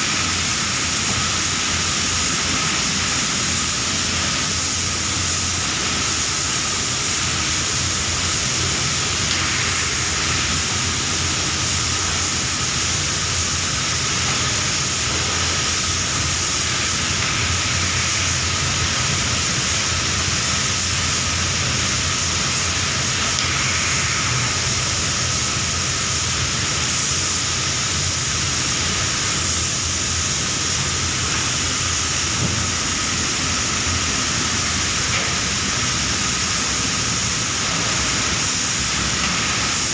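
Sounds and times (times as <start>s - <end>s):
spray booth hum: 0.0s - 39.9s
spray gun hissing: 0.0s - 39.9s.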